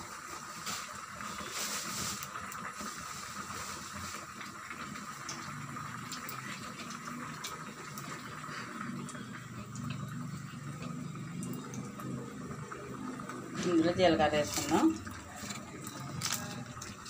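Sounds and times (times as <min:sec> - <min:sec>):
garlic sizzling in hot oil: 0:00.0 - 0:17.0
small crackles of frying: 0:00.0 - 0:17.0.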